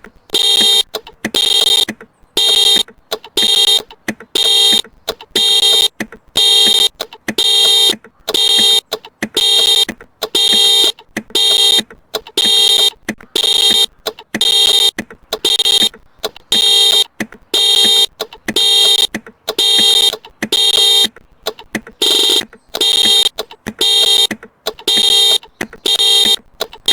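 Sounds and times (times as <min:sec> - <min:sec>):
car alarm honking: 0:00.0 - 0:26.9.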